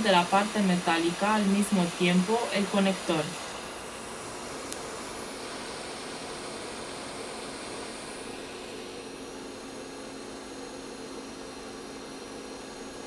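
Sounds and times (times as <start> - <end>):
hot air station hissing: 0.0 - 13.0.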